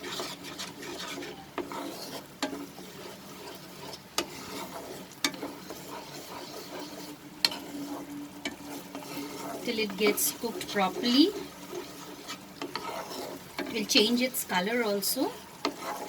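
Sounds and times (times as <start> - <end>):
sauce sizzling in a pan: 0.0 - 16.0.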